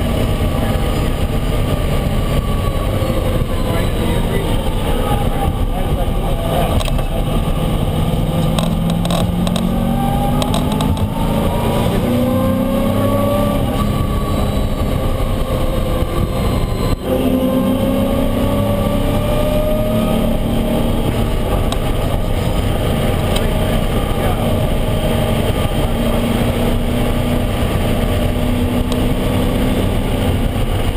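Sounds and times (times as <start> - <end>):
race car engine accelerating: 0.0 - 30.9.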